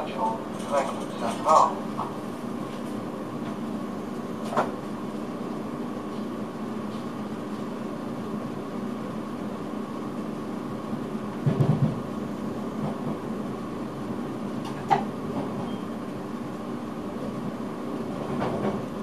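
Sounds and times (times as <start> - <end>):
electric train running hum: 0.0 - 19.0.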